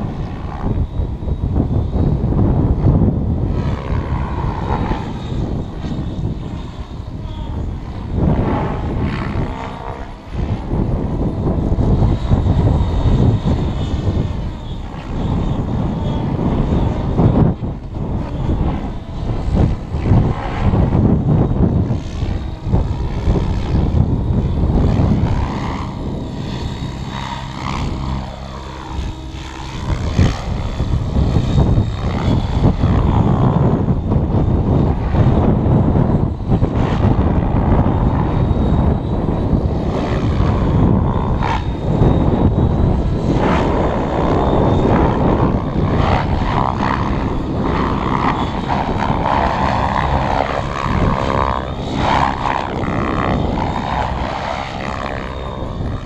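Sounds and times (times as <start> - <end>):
rc helicopter rotor and motor: 0.0 - 56.0.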